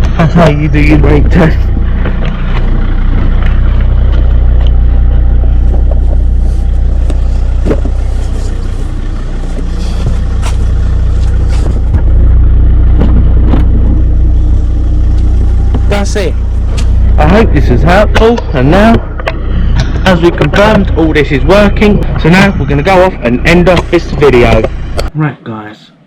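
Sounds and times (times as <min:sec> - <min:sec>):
car engine idling: 0:00.0 - 0:25.1.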